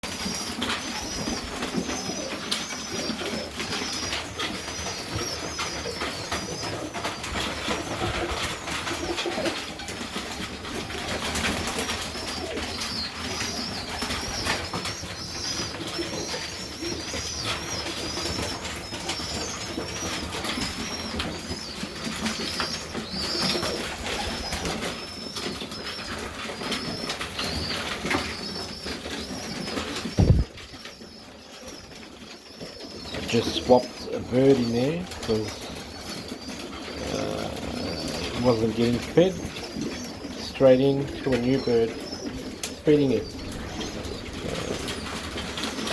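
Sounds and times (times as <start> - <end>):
pigeons cooing: 0.0 - 45.9
rustles and clicks: 0.0 - 45.9.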